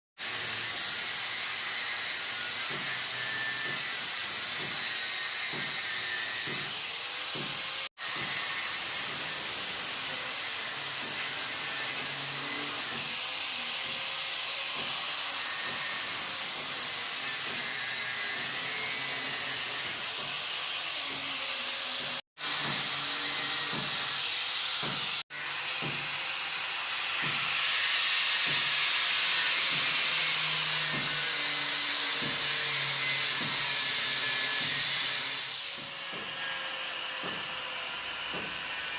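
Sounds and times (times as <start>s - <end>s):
angle grinder cutting metal rod: 0.2s - 38.9s.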